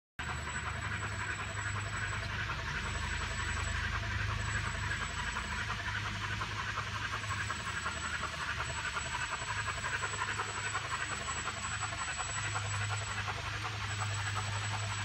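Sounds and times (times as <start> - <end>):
model train chuffing hiss: 0.2 - 15.0.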